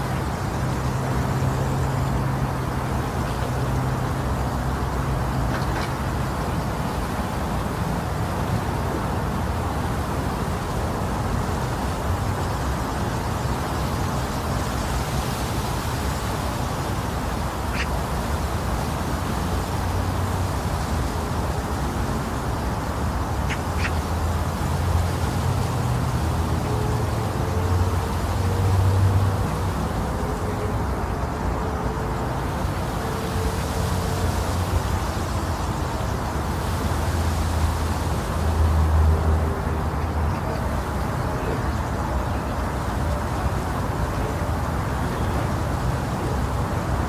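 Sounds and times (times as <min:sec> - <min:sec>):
low rumbling white noise: 0:00.0 - 0:47.0.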